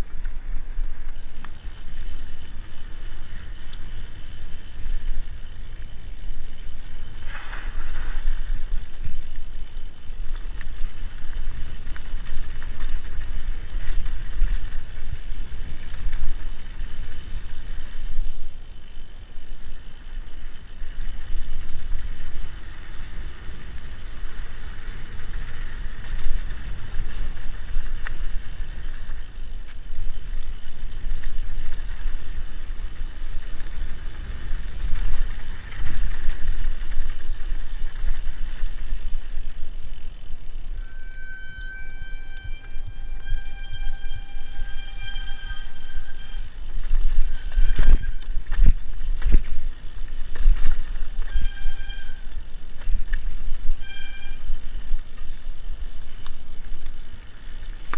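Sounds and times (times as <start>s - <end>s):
bike clicks and rattles: 0.0s - 57.9s
tyres rolling over gravel: 0.0s - 57.9s.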